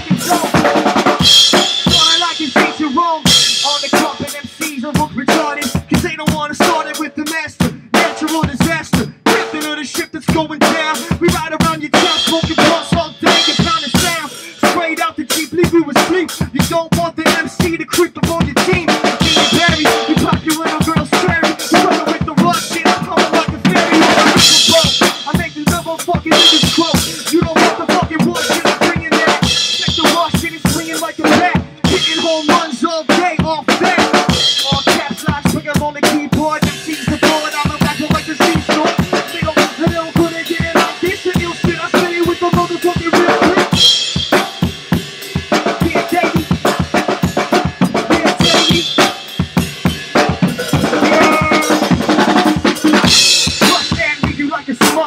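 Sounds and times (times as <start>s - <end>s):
drum kit playing fast: 0.0s - 55.0s.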